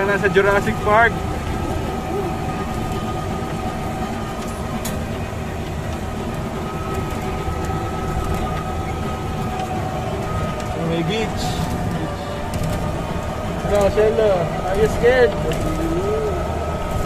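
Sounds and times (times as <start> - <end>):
thin steady whine: 0.0 - 17.0
tram low rumble: 0.0 - 17.0.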